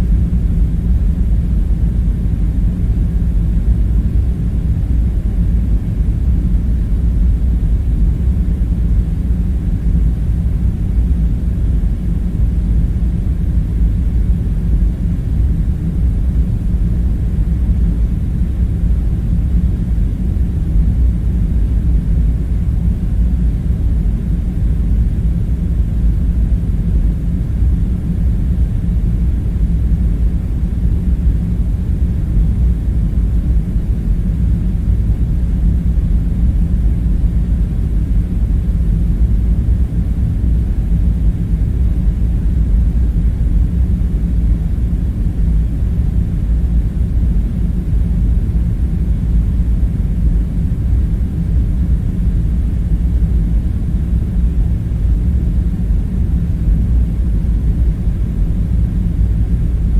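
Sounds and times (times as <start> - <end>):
deep machinery drone: 0.0 - 59.9.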